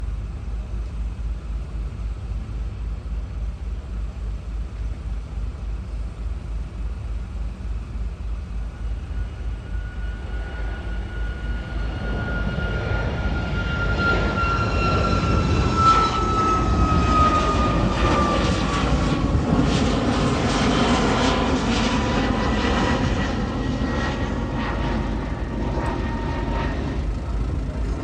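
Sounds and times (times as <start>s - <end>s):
high jet engine whine: 0.0s - 28.0s
jet airliner rumble: 0.0s - 28.0s.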